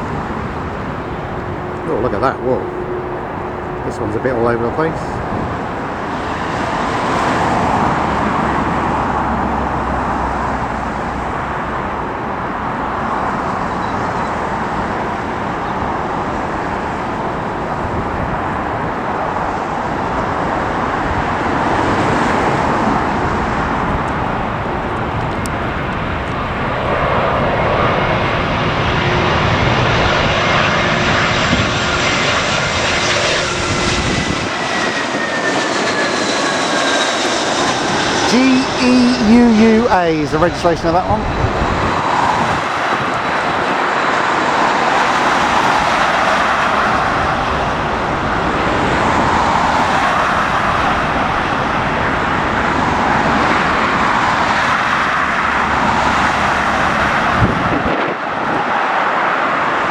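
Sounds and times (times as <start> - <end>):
wind rumble on microphone: 0.0 - 34.9, 39.4 - 59.0
whining engine tone: 0.0 - 57.4
jet engine rushing: 0.0 - 59.9.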